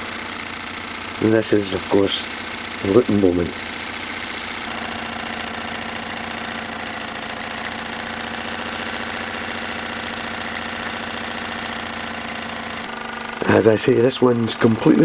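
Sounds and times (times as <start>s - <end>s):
toy steam engine running: 0.0s - 15.0s.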